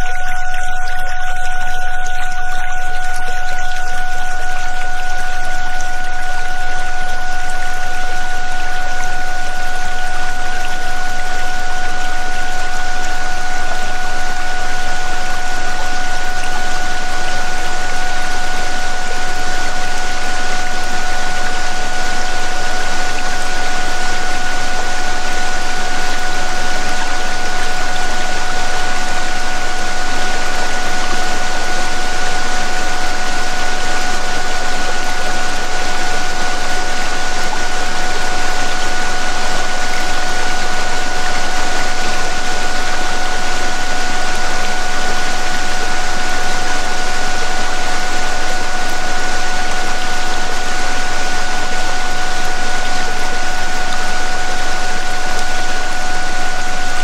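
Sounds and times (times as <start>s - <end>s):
electronic tone drone: 0.0s - 57.0s.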